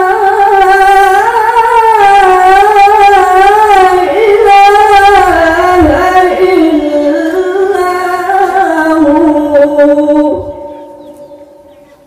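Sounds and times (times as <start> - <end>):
man reciting melodically: 0.0 - 11.7.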